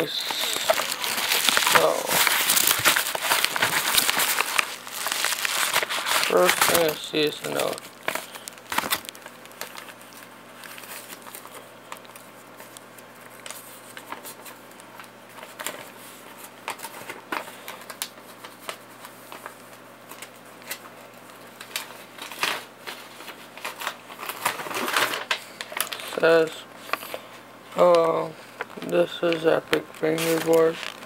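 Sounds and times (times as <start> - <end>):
paper rustling and crinkling: 0.0 - 31.0.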